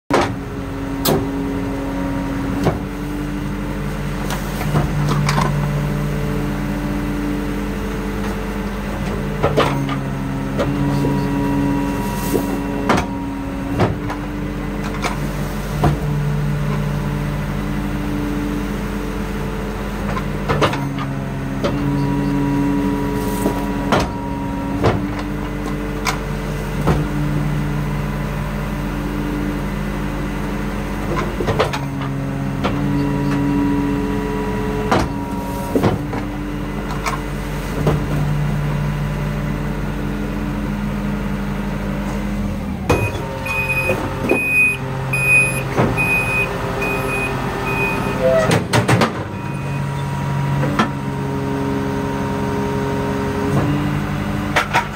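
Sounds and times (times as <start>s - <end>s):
engine and hydraulic pump drone: 0.1s - 54.9s.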